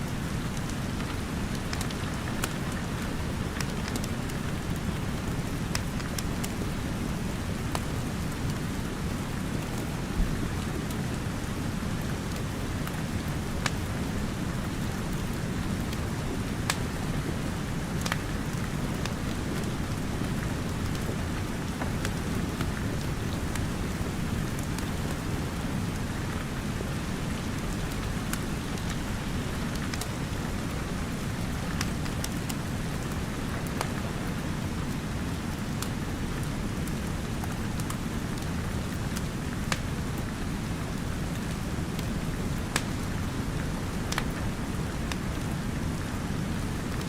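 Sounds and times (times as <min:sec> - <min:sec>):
steady rain: 0:00.0 - 0:47.0
wood fire crackling and popping: 0:00.2 - 0:47.0.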